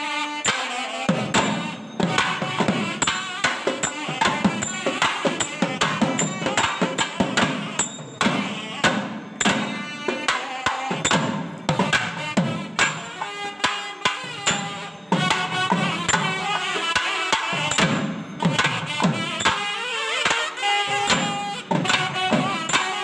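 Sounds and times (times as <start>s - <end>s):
high metallic ringing: 0.4s - 23.0s
fast drumming: 1.1s - 23.0s.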